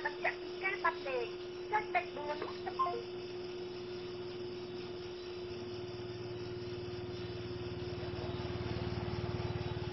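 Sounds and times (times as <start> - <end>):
low pulsing engine-like drone: 0.0 - 9.9
room hum with hiss: 0.0 - 9.9.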